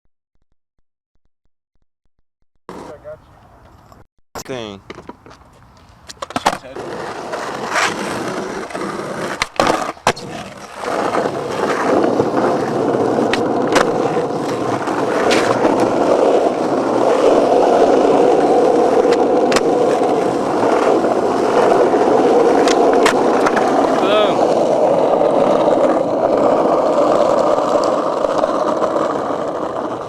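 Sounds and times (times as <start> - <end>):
skateboard wheels rolling on concrete: 2.7 - 4.0, 4.6 - 30.0.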